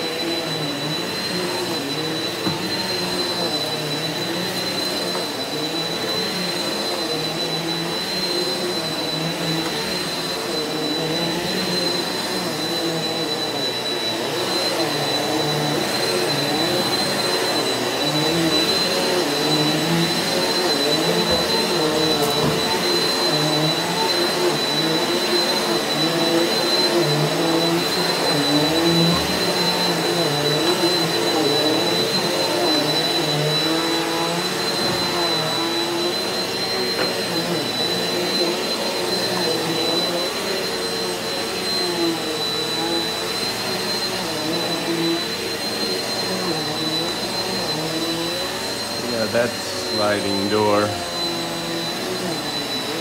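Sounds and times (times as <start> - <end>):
upright vacuum running on carpet: 0.0 - 53.0.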